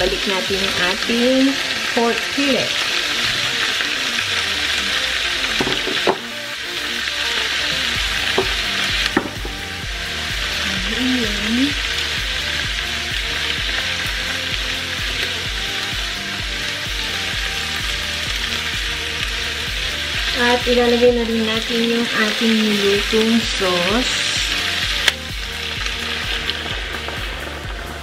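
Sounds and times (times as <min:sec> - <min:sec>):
meat and vegetables sizzling in oil: 0:00.0 - 0:28.0.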